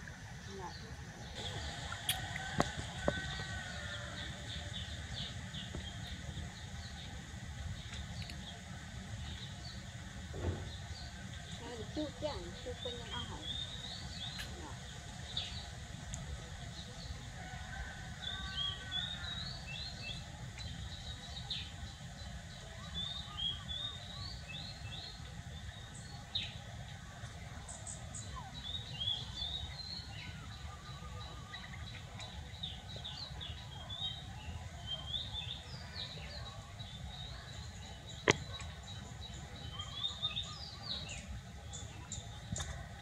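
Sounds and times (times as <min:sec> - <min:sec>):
low outdoor rumble: 0:00.0 - 0:43.0
small birds chirping: 0:00.4 - 0:17.2, 0:18.2 - 0:43.0.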